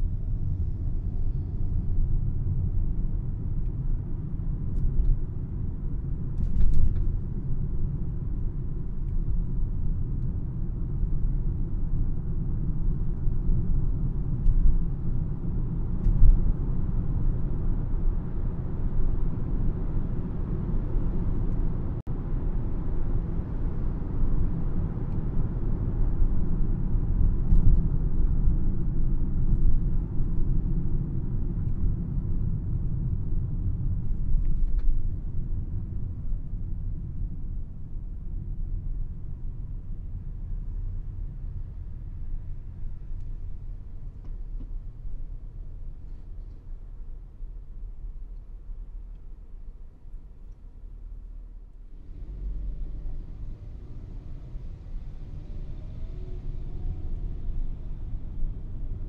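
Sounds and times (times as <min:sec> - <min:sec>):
car tyres and engine rumble: 0:00.0 - 0:59.0.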